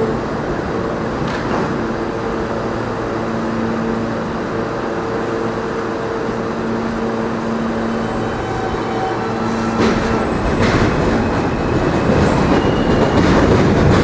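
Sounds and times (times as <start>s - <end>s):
train equipment humming with tones: 0.0s - 14.0s.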